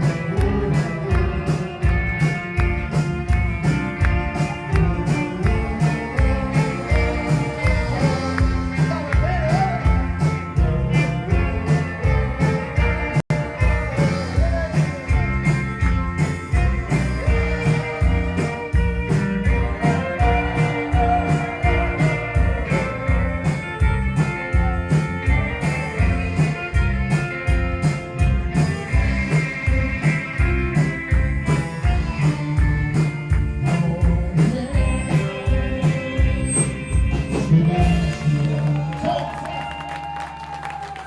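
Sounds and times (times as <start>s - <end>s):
rock band playing: 0.0s - 41.0s.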